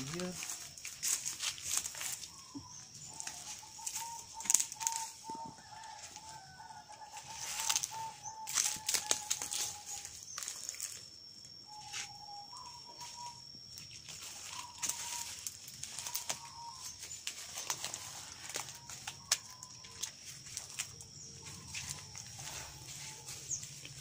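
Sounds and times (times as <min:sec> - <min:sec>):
bird calling: 0:01.8 - 0:11.0, 0:11.6 - 0:24.0.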